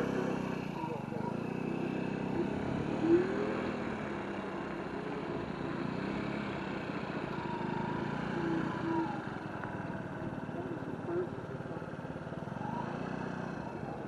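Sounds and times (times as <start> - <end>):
electric scooter whine: 0.0 - 14.0
road and wind noise: 0.0 - 14.0.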